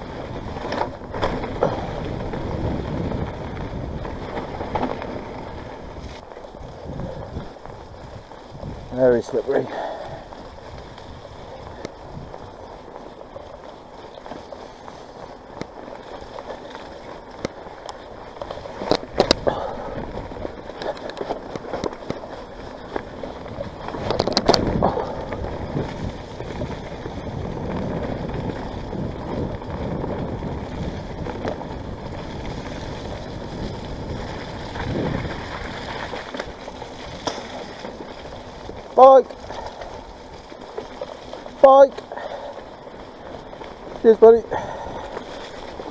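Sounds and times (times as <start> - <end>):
bike knocks and jolts: 0.0 - 45.9
bike tyres splashing through water: 0.0 - 45.9.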